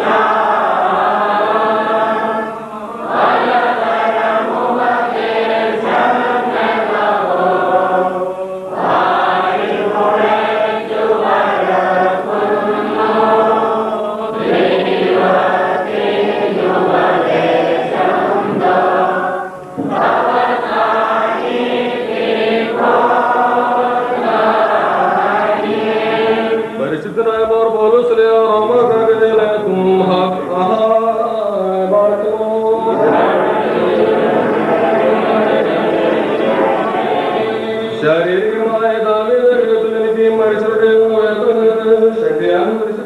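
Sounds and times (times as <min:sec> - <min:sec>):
men chanting a hymn: 0:00.0 - 0:43.0.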